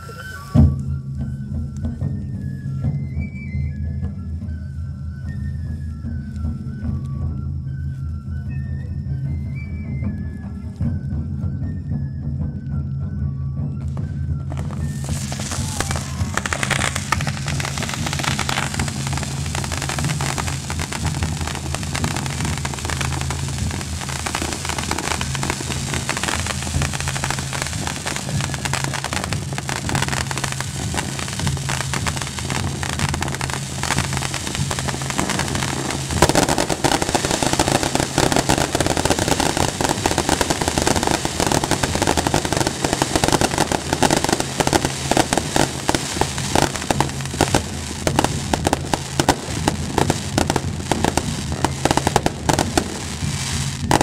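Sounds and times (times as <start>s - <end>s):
fireworks crackling and bursting: 0.0s - 7.2s, 13.8s - 54.0s.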